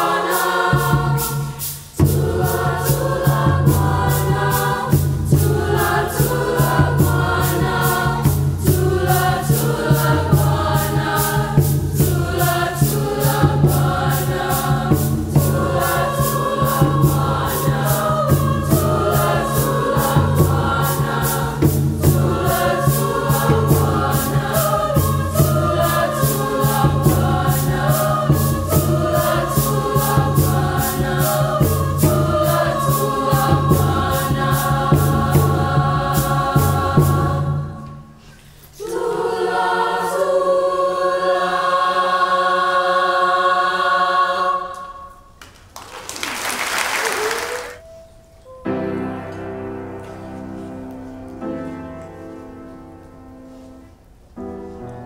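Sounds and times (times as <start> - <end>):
choir singing in harmony: 0.0 - 45.4, 47.3 - 54.0.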